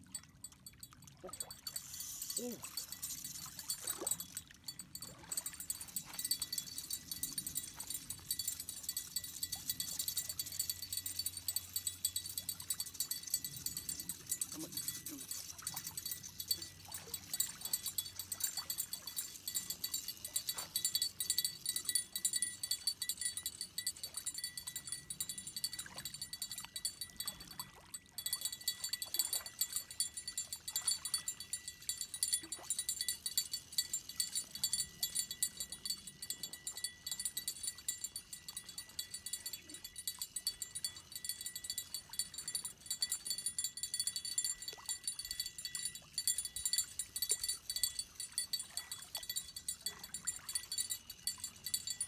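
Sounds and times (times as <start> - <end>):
fishing rod bell jingling: 0.0 - 52.0
fishing reel drag clicking: 1.5 - 27.6, 28.2 - 52.0.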